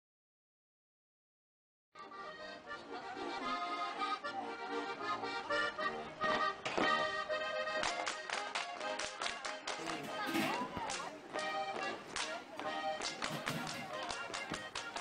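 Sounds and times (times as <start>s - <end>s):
instrumental music: 2.0s - 15.0s.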